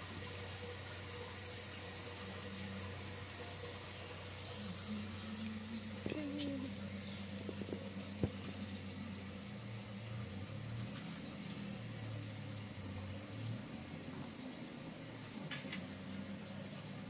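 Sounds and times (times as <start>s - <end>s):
background hiss: 0.0s - 17.0s
motor humming: 0.2s - 15.3s.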